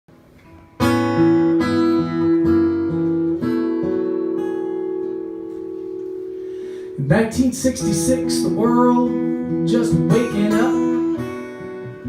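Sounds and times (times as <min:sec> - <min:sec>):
acoustic guitar chords: 0:00.1 - 0:12.0.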